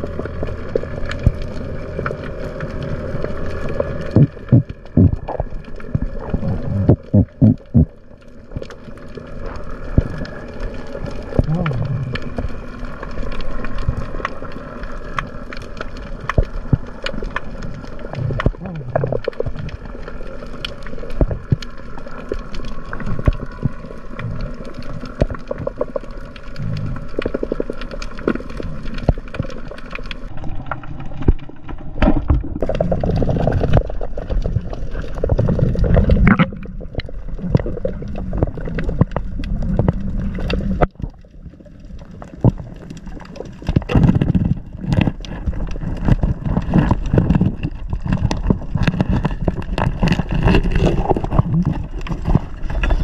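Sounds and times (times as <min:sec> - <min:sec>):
underwater crackling clicks: 0:00.0 - 0:53.0
water swishes: 0:00.0 - 0:53.0.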